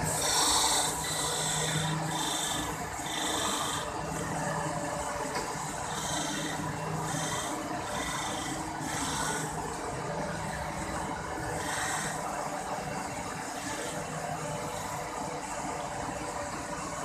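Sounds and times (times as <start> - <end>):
surface grinder humming and hissing: 0.0 - 17.0.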